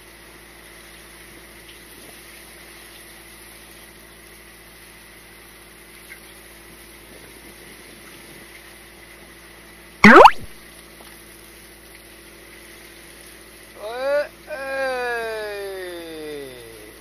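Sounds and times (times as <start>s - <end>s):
faint water sounds: 0.0s - 17.0s.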